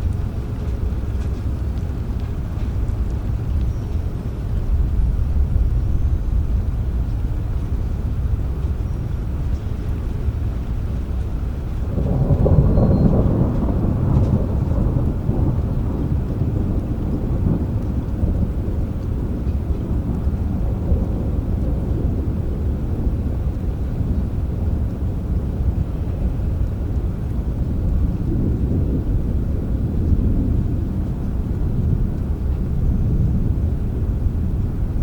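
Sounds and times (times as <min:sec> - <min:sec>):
rolling thunder: 0:00.0 - 0:35.0
steady rain: 0:00.0 - 0:35.0.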